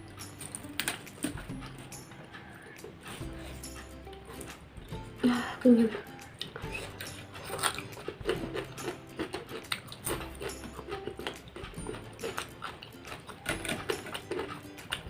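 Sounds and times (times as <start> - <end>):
wet chewing clicks: 0.0 - 15.0
lip smacks: 0.2 - 15.0.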